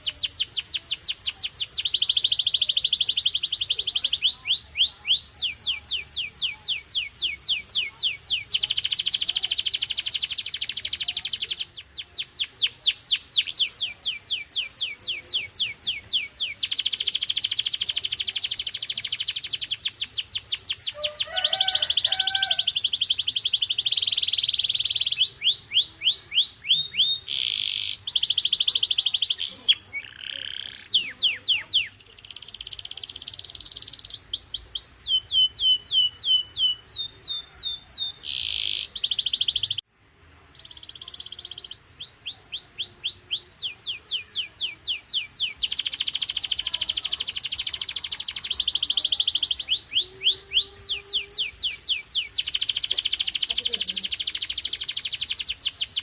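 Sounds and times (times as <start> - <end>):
canary singing trills: 0.0 - 39.9, 40.5 - 56.0.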